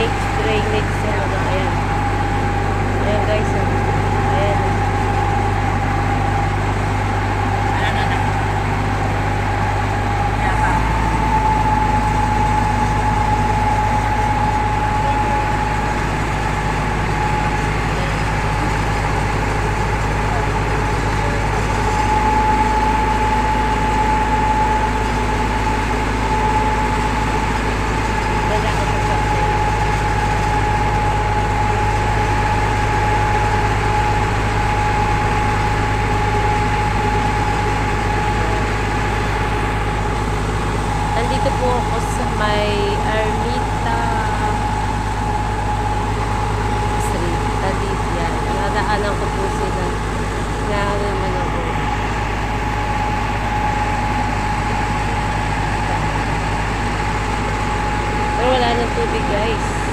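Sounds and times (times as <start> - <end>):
pump whine: 0.0 - 59.9
truck engine and pump drone: 0.0 - 59.9.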